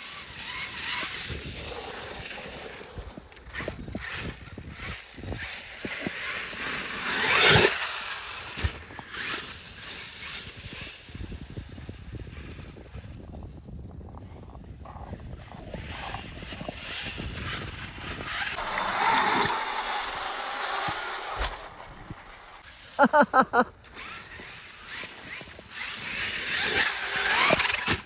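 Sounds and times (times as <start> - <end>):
rc truck motor whining: 0.0 - 28.0.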